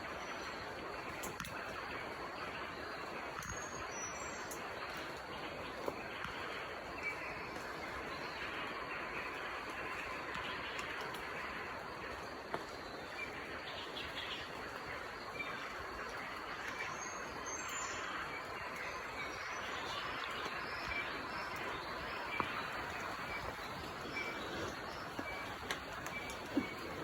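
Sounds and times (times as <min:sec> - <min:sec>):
steady background hiss: 0:00.0 - 0:27.0
birds chirping: 0:00.2 - 0:27.0.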